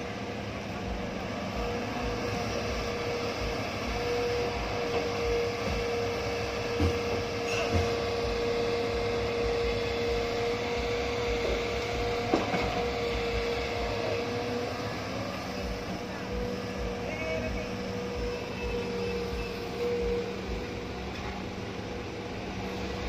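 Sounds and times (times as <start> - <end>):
excavator whining: 0.0 - 23.0.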